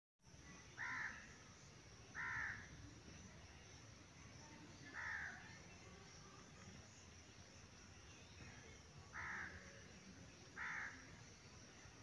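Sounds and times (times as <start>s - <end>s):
faint background hiss: 0.2s - 12.0s.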